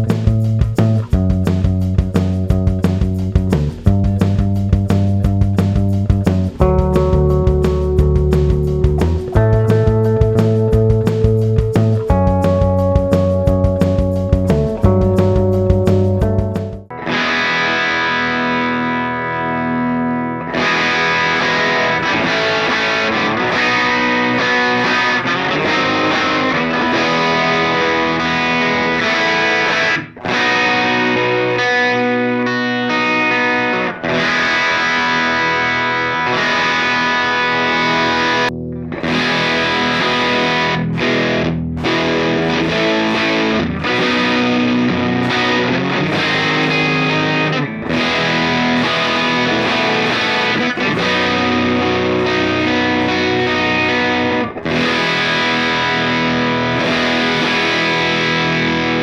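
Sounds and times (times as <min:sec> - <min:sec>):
distorted electric guitar chords: 0:00.0 - 0:59.0.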